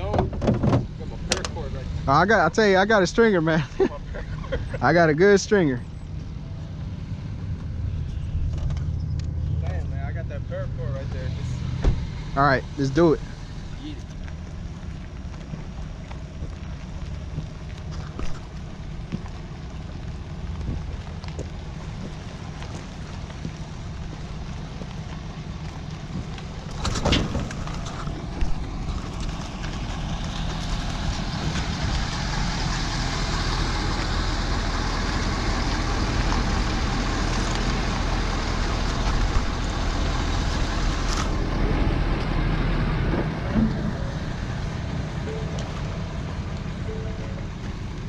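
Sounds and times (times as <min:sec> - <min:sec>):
road and wind noise: 0:00.0 - 0:48.0
vehicle engine rumble: 0:00.0 - 0:48.0.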